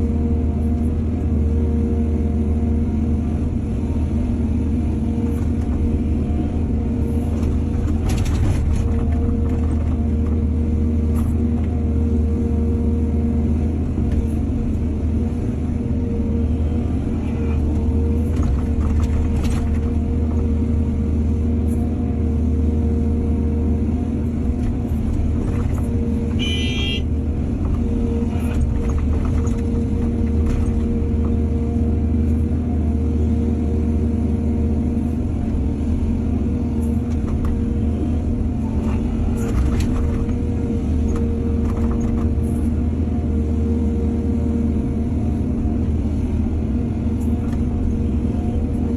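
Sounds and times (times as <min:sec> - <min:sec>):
engine whine: 0:00.0 - 0:48.9
excavator diesel engine drone: 0:00.0 - 0:48.9.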